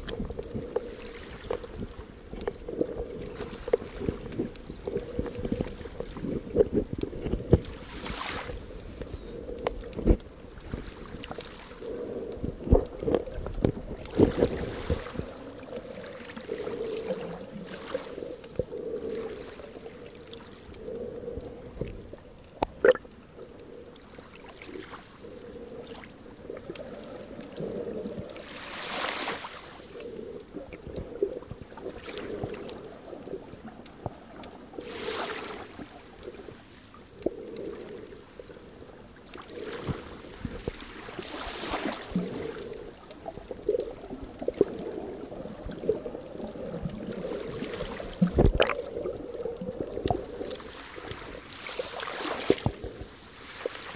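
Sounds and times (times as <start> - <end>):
underwater murmur of water: 0.0 - 53.9.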